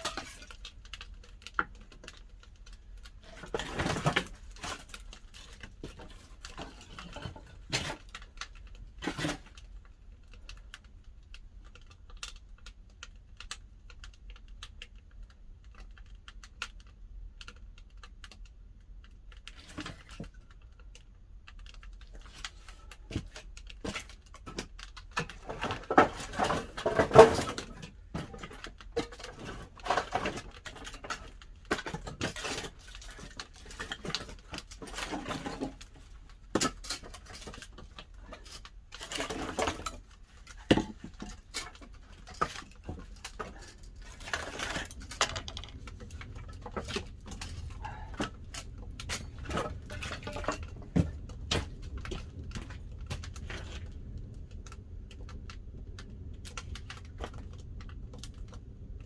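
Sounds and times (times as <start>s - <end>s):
firewood crackling and popping: 0.0s - 59.0s.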